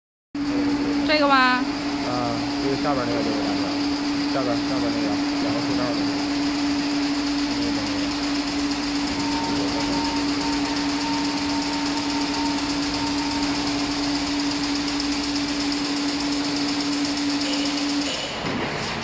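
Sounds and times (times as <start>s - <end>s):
fence machine motor hum: 0.4s - 18.3s
high machine whine: 0.4s - 19.0s.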